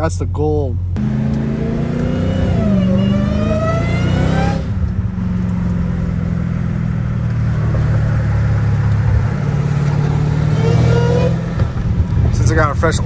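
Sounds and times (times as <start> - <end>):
car engine accelerating: 0.9 - 13.0.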